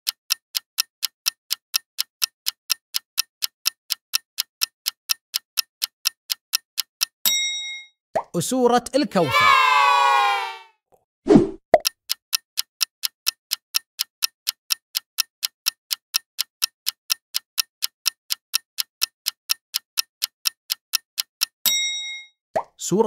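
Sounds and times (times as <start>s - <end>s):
clock ticking countdown: 0.0s - 9.0s, 11.8s - 23.0s.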